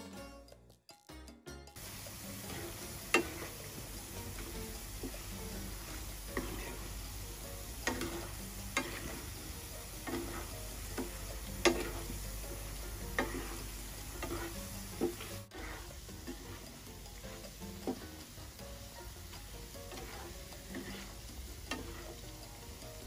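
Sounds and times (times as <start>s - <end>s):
frying sizzle: 1.8s - 23.0s
spatula knocking and scraping pan: 1.8s - 23.0s.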